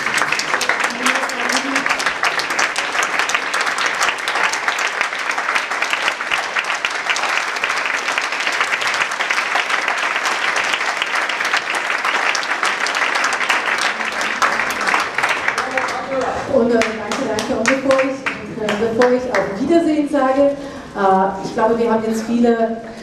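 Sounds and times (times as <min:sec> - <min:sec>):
audience applause: 0:00.0 - 0:19.5.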